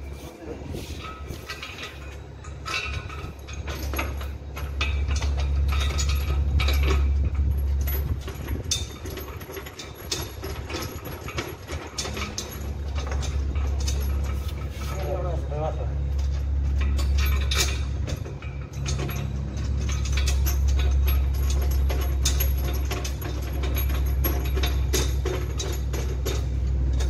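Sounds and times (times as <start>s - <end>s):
low rumble: 0.0s - 27.0s
metallic clinks and knocks: 1.0s - 27.0s.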